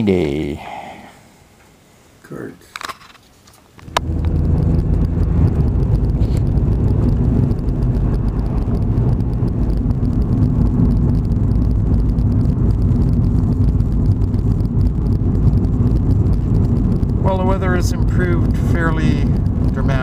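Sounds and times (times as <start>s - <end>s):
vehicle engine rumbling: 3.7s - 20.0s.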